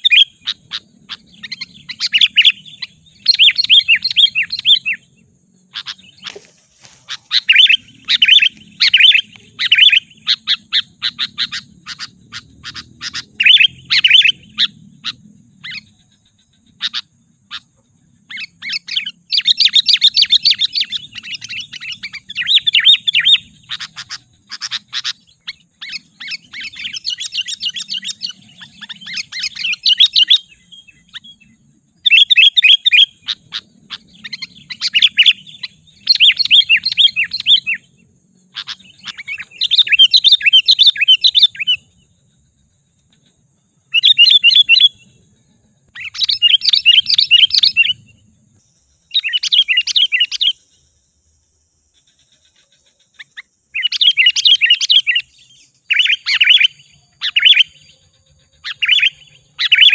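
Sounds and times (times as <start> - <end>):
bird chattering calls: 0.0 - 31.4, 32.0 - 37.9, 38.5 - 41.9, 43.9 - 45.1, 46.0 - 48.1, 49.1 - 50.6, 52.3 - 59.9.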